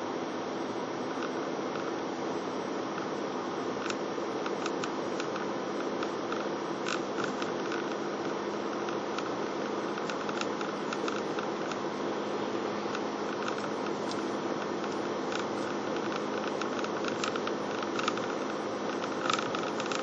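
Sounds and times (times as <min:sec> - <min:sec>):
car road and engine noise: 0:00.7 - 0:20.0.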